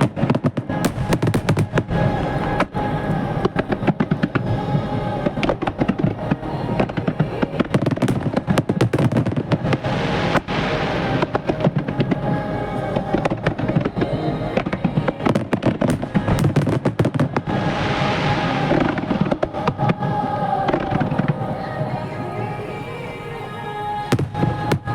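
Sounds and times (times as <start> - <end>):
crackling hiss of fireworks: 0.0 - 24.9
music playing: 0.0 - 24.9.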